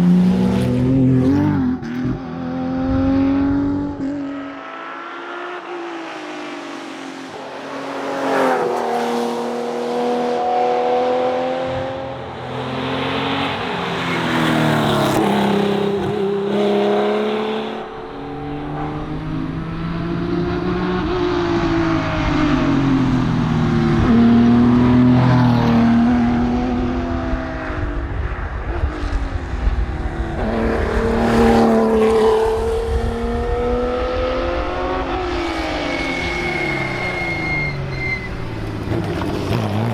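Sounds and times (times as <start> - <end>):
car engine accelerating and shifting: 0.0 - 39.9.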